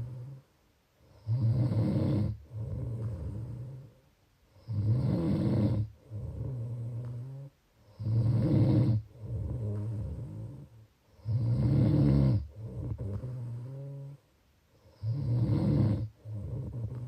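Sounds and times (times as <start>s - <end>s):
person snoring: 0.0s - 14.2s, 14.8s - 17.0s.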